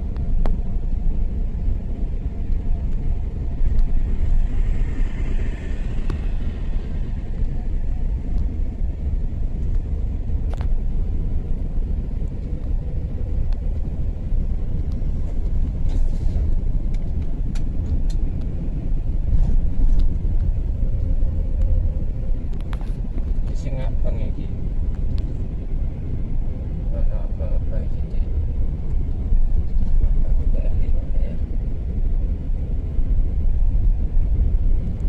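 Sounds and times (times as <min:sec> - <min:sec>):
vehicle road and engine rumble: 0:00.0 - 0:35.0.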